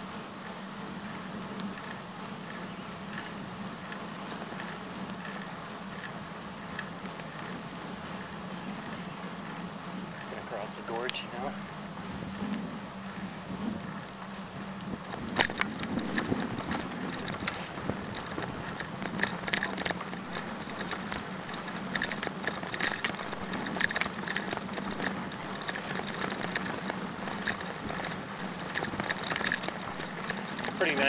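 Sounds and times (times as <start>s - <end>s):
bicycle rolling hum: 0.0s - 31.0s
bicycle tyres clicking on wooden planks: 0.0s - 31.0s.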